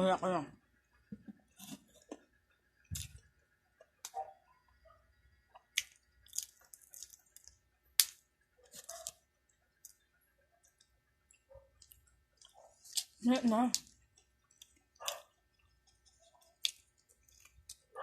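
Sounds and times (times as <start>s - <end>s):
person chewing food: 1.0s - 18.0s.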